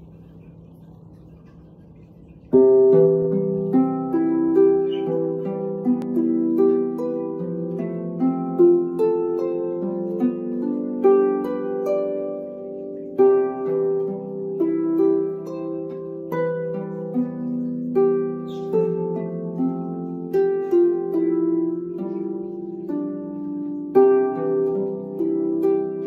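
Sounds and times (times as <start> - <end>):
plucked harp melody: 2.4 - 26.0.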